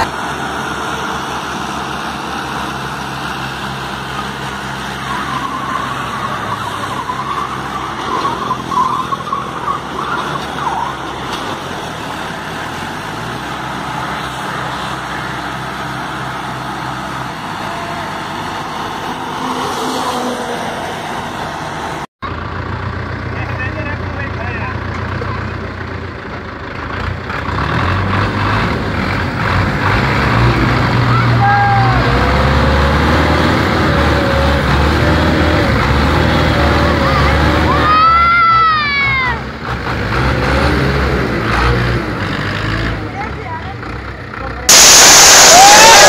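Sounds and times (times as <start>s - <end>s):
diesel tractor engines running: 0.0s - 46.0s
passing traffic road noise: 0.0s - 46.0s.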